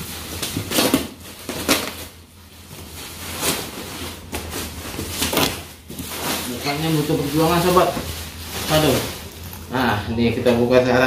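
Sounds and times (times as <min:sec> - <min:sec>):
bubble wrap rustling: 0:00.0 - 0:11.0.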